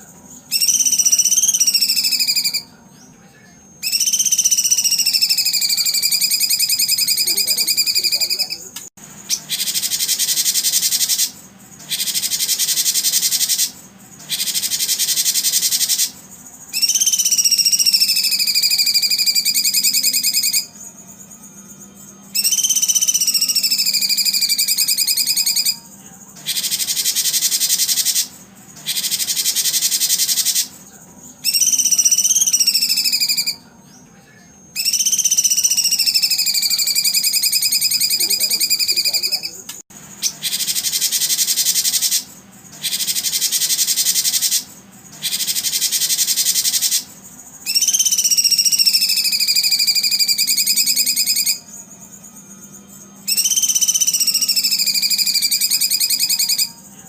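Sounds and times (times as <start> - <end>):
high rapid bird trills: 0.0 - 3.1, 3.7 - 34.0, 34.7 - 57.0.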